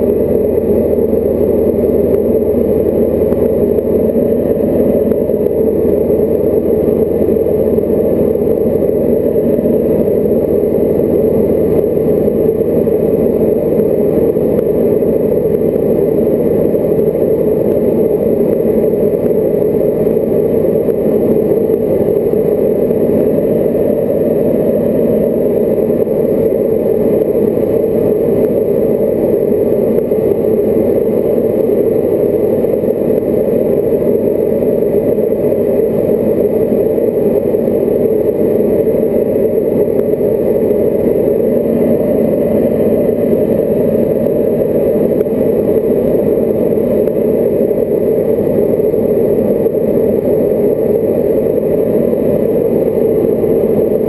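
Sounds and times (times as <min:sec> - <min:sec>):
aircraft engine and propeller droning: 0:00.0 - 0:54.0
deep hum: 0:00.0 - 0:54.0.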